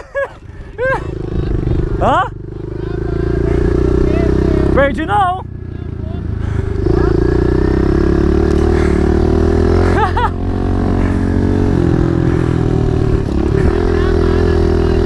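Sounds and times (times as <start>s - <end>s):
motorbike engine revving: 0.1s - 15.0s.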